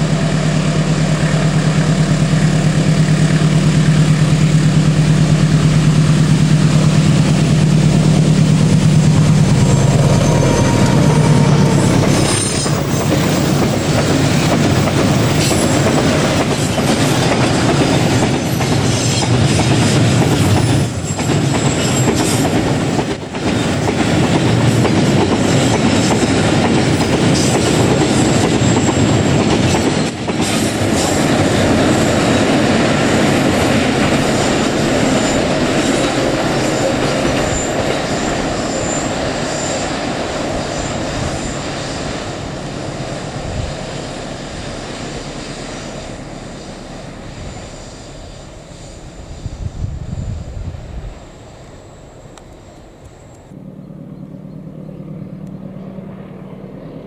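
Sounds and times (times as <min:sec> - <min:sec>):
train wheels clicking over rail joints: 0:00.0 - 0:48.8
diesel locomotive engine: 0:00.0 - 0:57.0.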